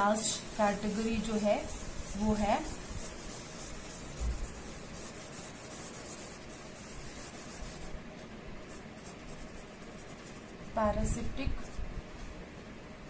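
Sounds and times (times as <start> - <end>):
cloth wiping a whiteboard: 0.0 - 12.4.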